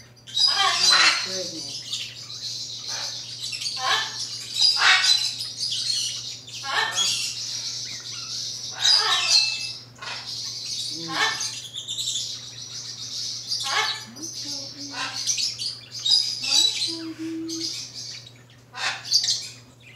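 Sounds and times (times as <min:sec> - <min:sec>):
steady low hum: 0:00.0 - 0:19.9
parrot squawking and chirping: 0:00.2 - 0:19.9.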